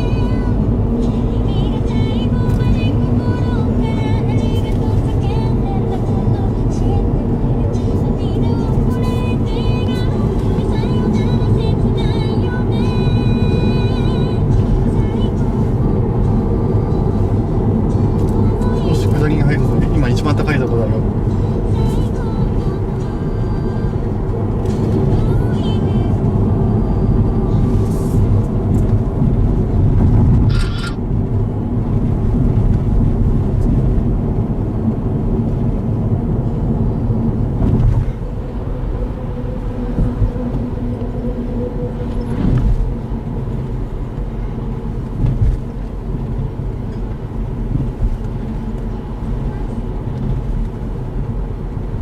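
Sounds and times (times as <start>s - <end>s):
tyre and engine drone inside car: 0.0s - 52.0s.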